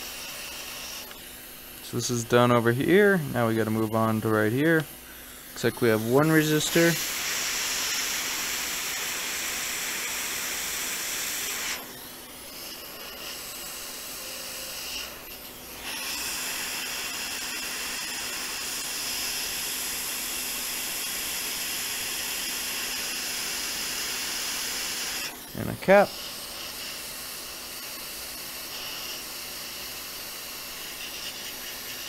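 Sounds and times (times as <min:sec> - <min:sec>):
hot air tool hissing: 0:00.0 - 0:32.0.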